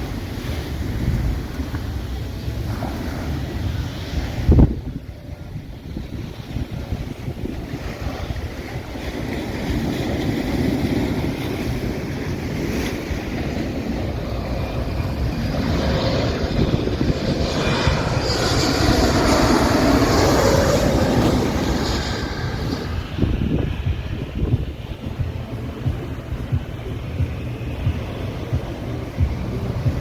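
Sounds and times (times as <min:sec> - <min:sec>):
jet aircraft passing overhead: 0:00.0 - 0:30.0
surf: 0:00.0 - 0:30.0
wind on microphone: 0:00.0 - 0:30.0.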